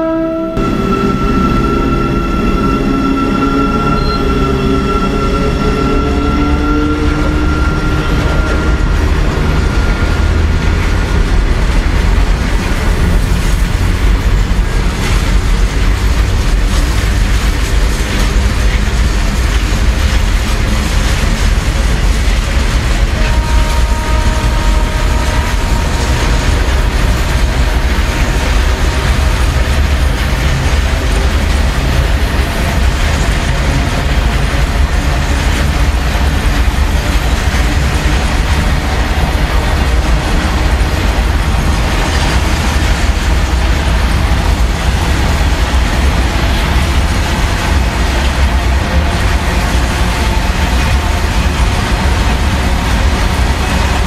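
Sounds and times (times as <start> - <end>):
train wheels rumbling on rails: 0.0 - 54.0
clatter over rail joints: 8.2 - 54.0.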